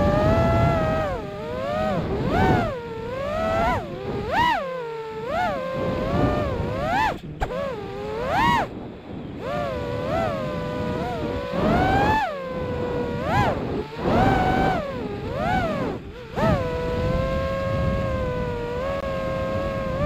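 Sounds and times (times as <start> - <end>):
quadcopter motors whining: 0.0 - 20.0
rough rushing noise: 0.0 - 20.0.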